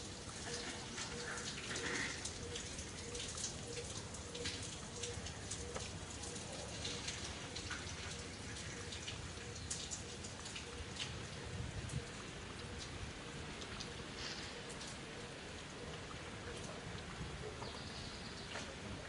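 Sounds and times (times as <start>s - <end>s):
light scattered ticks and patters: 0.0s - 19.0s
outdoor background hiss: 0.0s - 19.0s.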